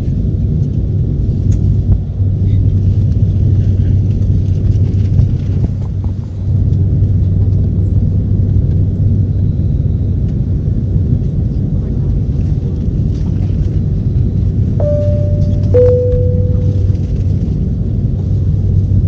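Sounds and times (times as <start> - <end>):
jet engine rumble inside cabin: 0.0 - 19.0.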